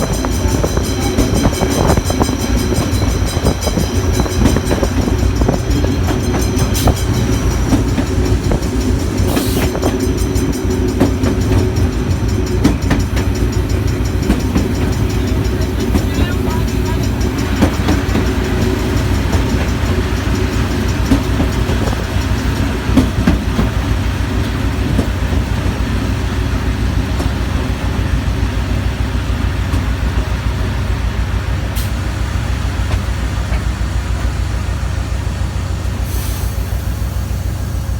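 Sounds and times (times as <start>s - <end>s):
train knocks: 0.0s - 36.8s
train rumbling on rails: 0.0s - 37.9s.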